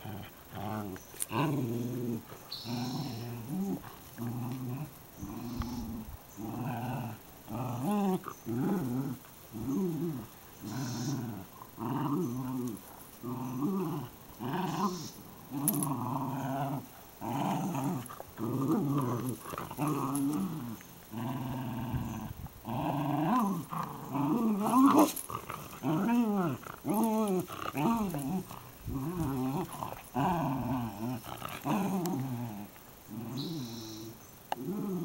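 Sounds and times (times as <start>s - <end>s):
dogs growling in play: 0.0s - 35.0s.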